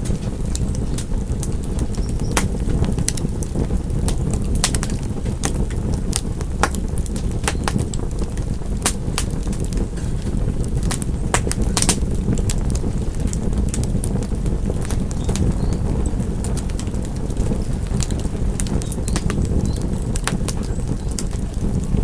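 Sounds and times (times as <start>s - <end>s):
fire crackling and popping: 0.0s - 22.0s
low rumble of fire: 0.0s - 22.0s.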